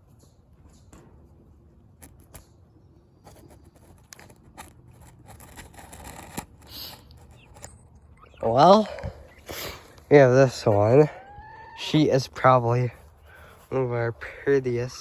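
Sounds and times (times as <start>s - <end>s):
rustling and scraping: 0.0s - 15.0s.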